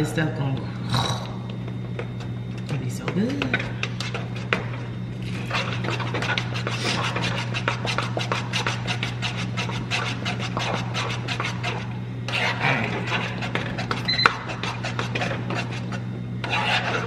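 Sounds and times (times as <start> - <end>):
steady low hum: 0.0 - 17.0
utensil scraping cooking pan: 3.2 - 17.0.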